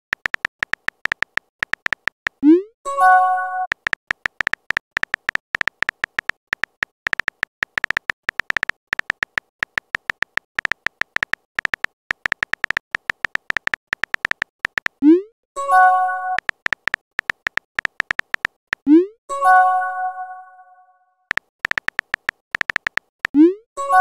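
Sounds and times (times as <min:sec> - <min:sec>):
keyboard typing clicks: 0:00.1 - 0:19.1, 0:21.3 - 0:24.0.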